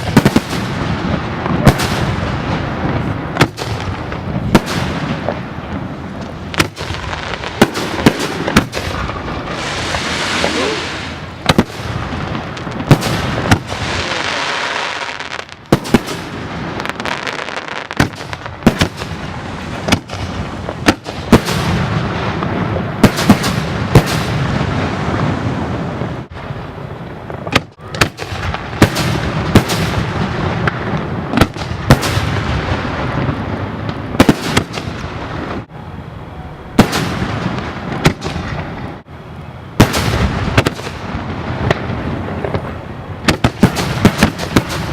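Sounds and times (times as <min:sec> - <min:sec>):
firework shells booming: 0:00.0 - 0:25.4, 0:27.2 - 0:35.7, 0:36.8 - 0:38.9, 0:39.8 - 0:44.9
fireworks crackling and rumbling: 0:00.0 - 0:44.9.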